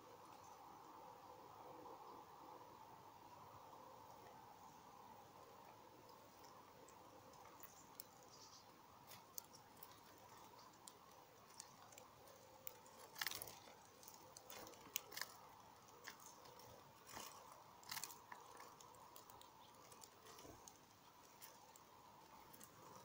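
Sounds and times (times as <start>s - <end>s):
birds pecking and cracking seeds: 3.6s - 23.0s.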